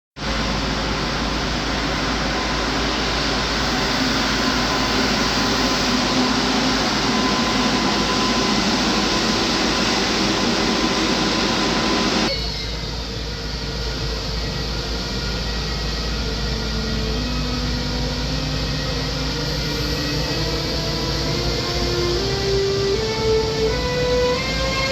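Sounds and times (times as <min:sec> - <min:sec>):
train running noise: 0:00.2 - 0:24.9
faint whining tones: 0:00.3 - 0:24.9.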